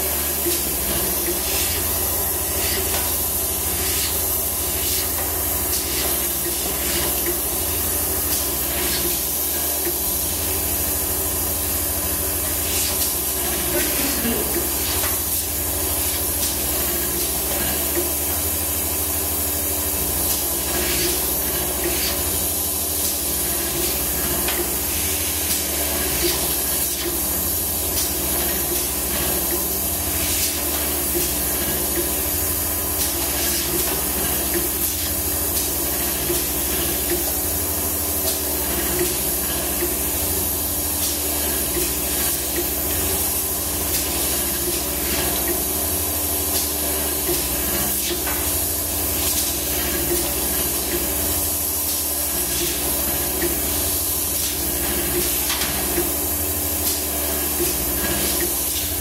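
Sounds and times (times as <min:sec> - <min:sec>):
bowl feeder mechanical hum: 0:00.0 - 0:59.0.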